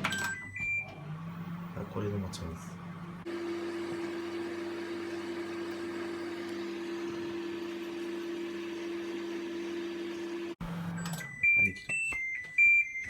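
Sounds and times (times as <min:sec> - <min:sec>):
microwave oven humming: 0:00.0 - 0:11.7.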